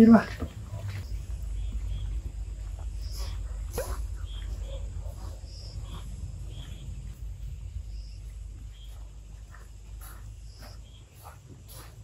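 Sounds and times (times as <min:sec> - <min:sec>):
low steady rumble: 0:00.0 - 0:11.5
insects chirping: 0:00.0 - 0:12.0.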